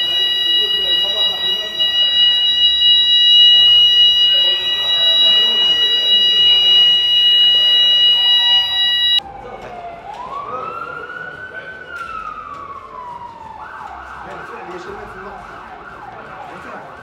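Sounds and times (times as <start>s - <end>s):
fire alarm tone: 0.0s - 14.6s
emergency vehicle siren wailing: 0.0s - 17.0s.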